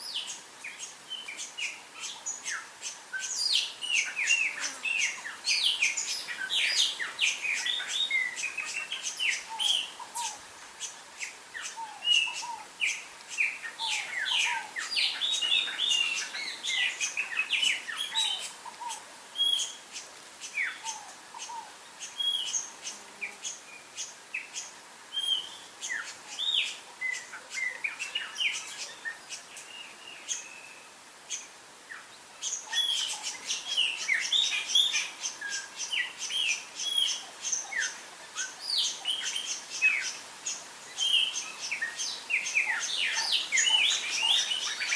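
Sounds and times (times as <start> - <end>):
wild birds chirping: 0.0 - 44.9.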